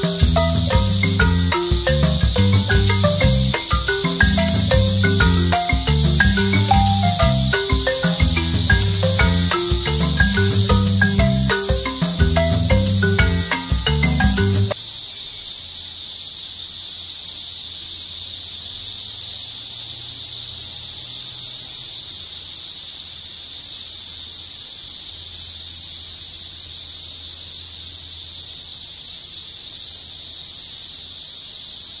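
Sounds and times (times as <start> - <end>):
cicadas buzzing: 0.0 - 32.0.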